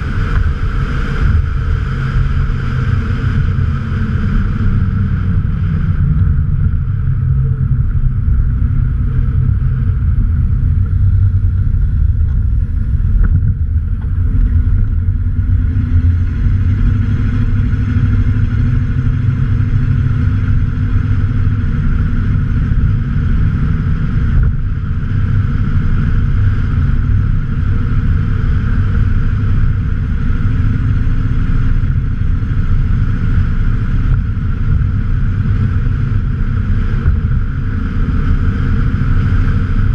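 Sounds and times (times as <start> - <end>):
truck engine droning while driving: 0.0 - 39.9.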